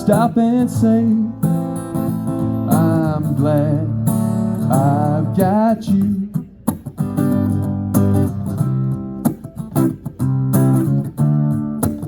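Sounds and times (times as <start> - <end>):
guitar strumming: 0.0 - 12.0.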